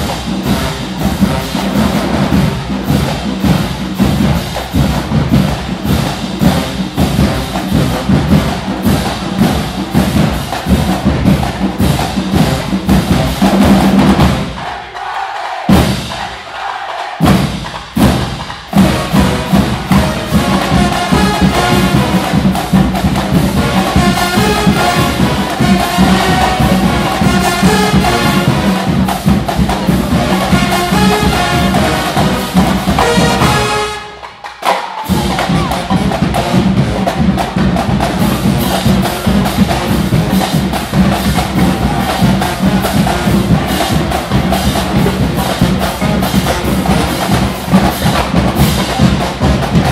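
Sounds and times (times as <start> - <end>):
drumline percussion cadence: 0.0 - 49.9.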